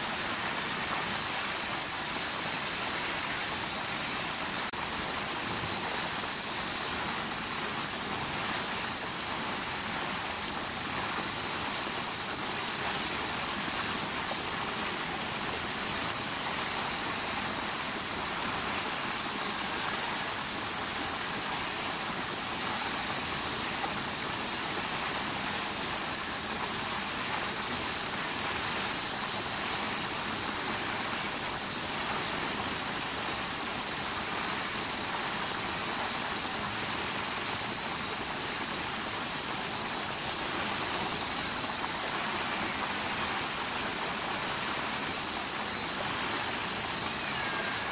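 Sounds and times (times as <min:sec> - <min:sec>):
cicada chorus drone: 0:00.0 - 0:47.9
faint pulsing insect call: 0:00.0 - 0:47.9.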